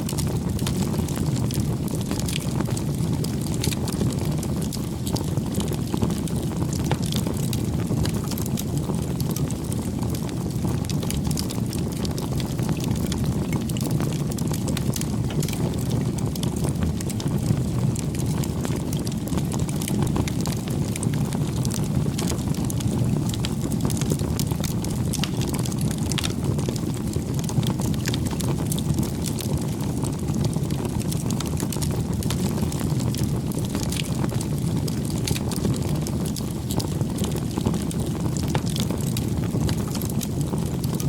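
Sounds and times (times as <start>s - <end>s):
fire crackles and pops: 0.0s - 41.0s
low rumble of flames: 0.0s - 41.0s.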